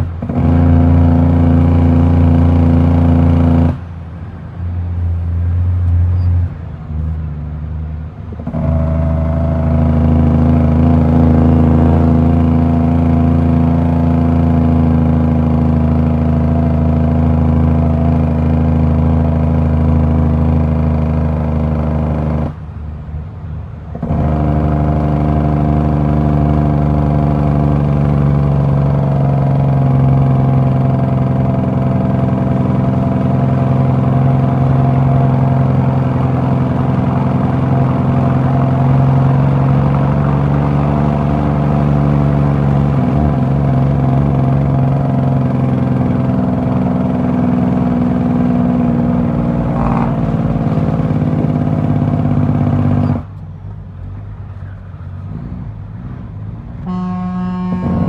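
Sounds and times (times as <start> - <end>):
diesel truck engine under load: 0.0 - 58.0.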